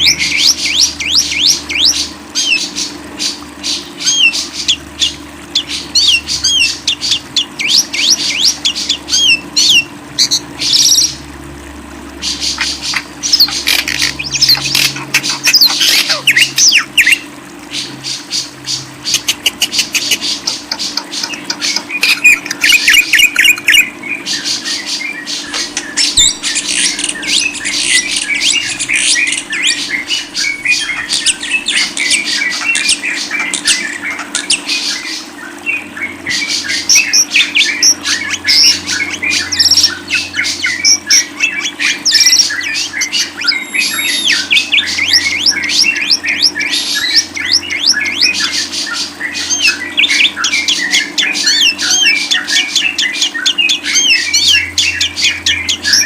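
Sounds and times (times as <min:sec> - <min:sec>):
bird chirping and squawking: 0:00.0 - 0:11.2, 0:12.2 - 0:56.0
steady low hum: 0:00.0 - 0:56.0.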